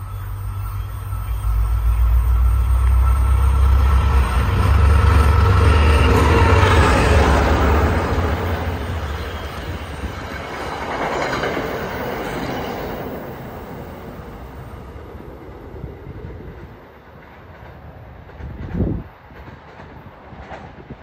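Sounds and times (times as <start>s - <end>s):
diesel locomotive engine drone: 0.0s - 21.0s
train rolling noise: 0.0s - 21.0s.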